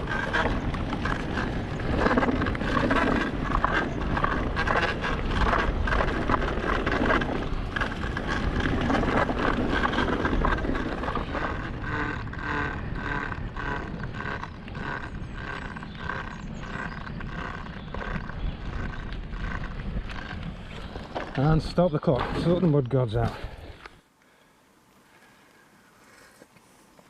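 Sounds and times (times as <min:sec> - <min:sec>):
wind on microphone: 0:00.0 - 0:21.7
bike rattling: 0:00.0 - 0:23.5
bike tyre and trail noise: 0:00.0 - 0:27.0.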